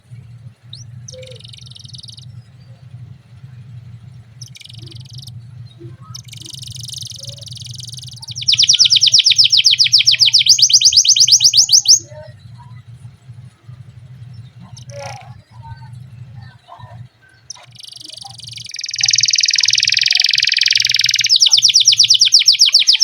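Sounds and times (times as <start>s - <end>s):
canary singing trills: 0.0s - 23.0s
low steady hum: 0.0s - 23.0s.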